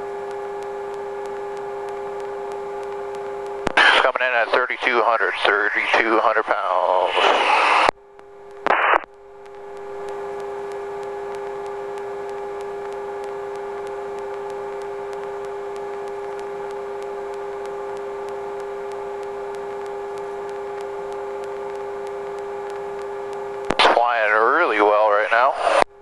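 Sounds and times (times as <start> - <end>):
faint regular ticking: 0.2 - 5.6, 8.1 - 24.8.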